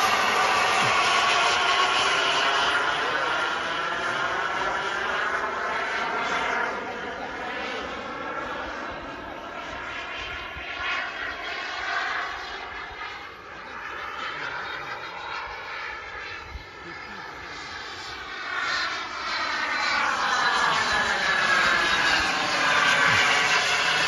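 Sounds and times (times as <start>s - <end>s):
model jet turbine whoosh and whine: 0.0s - 24.0s.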